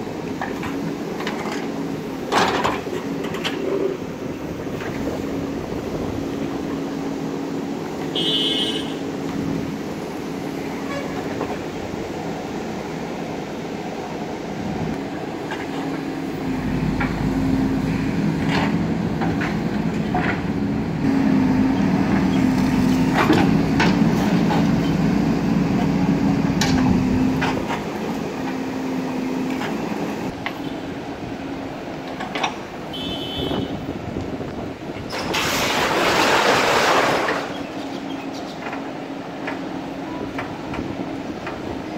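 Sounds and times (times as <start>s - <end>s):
bulldozer diesel engine: 0.0s - 41.9s.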